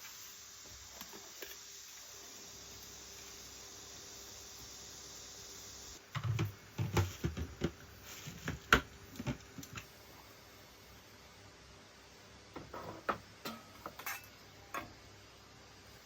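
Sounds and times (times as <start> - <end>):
steady high hiss: 0.0 - 7.2, 7.8 - 16.0.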